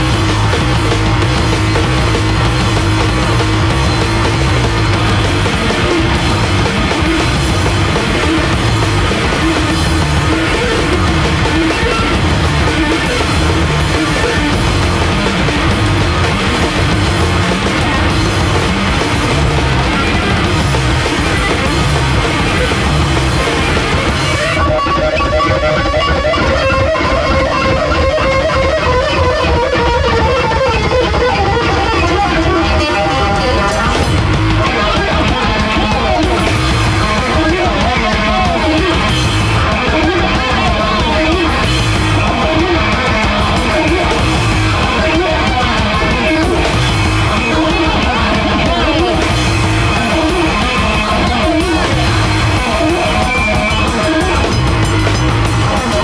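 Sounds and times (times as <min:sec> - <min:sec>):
distorted bass guitar riff: 0:00.0 - 0:56.0
fast dense drumming: 0:00.0 - 0:56.0.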